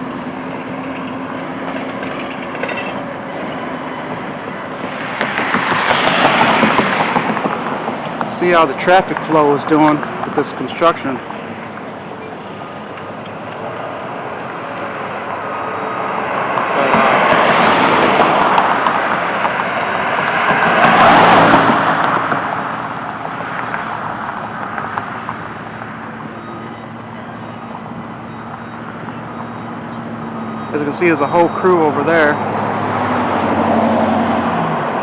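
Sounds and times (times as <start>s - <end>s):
steady traffic hum: 0.0s - 35.0s
vehicles passing close by: 0.0s - 35.0s.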